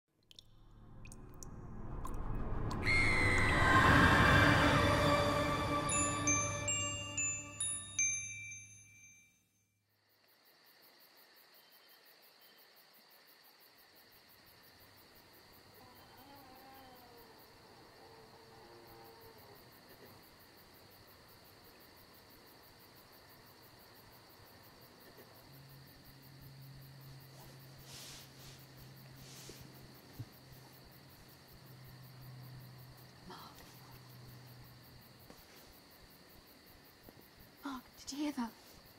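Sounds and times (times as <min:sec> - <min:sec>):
crickets chirping: 0:00.8 - 0:08.7, 0:09.8 - 0:38.9.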